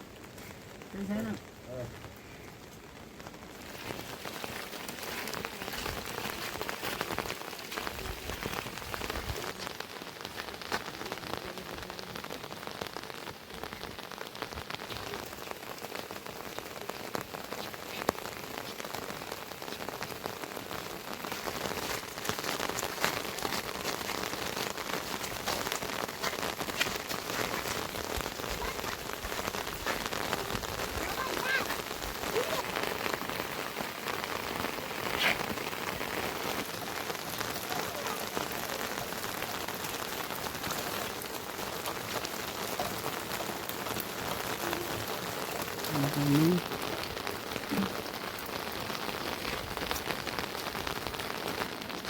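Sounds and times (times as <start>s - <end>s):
raindrops ticking on surfaces: 0.0s - 52.0s
steady rain falling: 0.0s - 52.0s.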